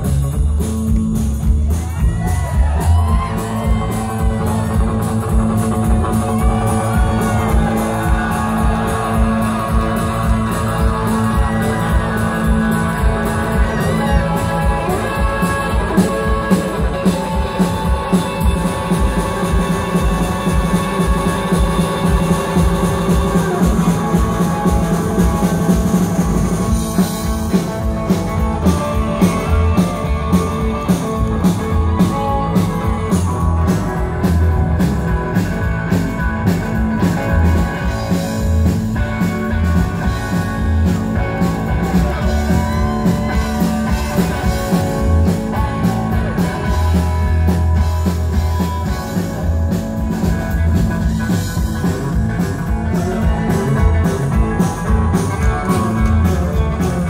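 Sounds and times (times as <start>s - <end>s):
rockabilly band playing live: 0.0s - 57.0s.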